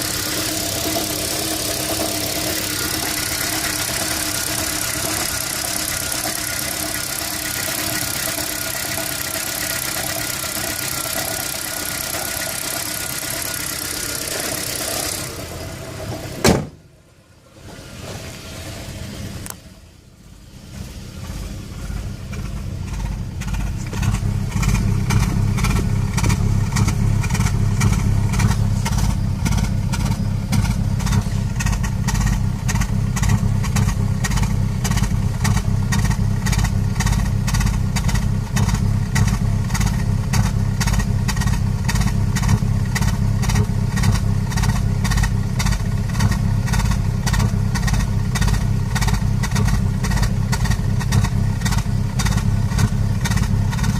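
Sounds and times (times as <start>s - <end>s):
car engine pulsing: 0.0s - 17.8s, 18.6s - 53.9s.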